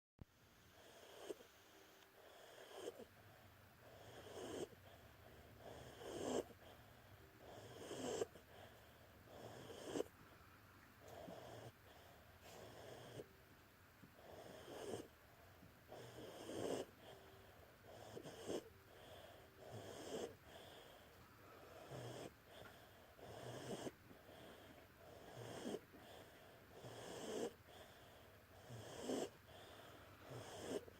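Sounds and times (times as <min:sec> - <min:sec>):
dog snoring: 0:00.6 - 0:10.4, 0:11.0 - 0:13.4, 0:14.1 - 0:30.9.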